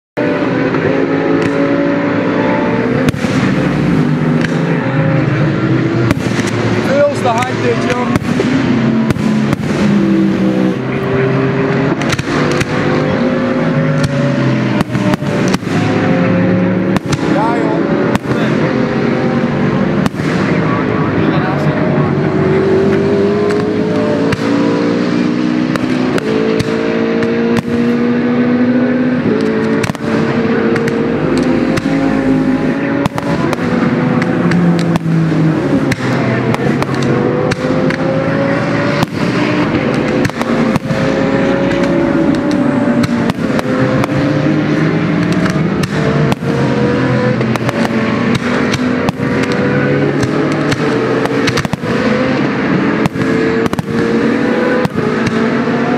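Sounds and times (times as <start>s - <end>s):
race car engines accelerating: 0.2s - 55.9s
firework bangs and crackles: 3.0s - 11.2s, 11.8s - 16.1s, 16.8s - 18.8s, 19.4s - 22.1s, 22.8s - 28.2s, 29.4s - 55.6s.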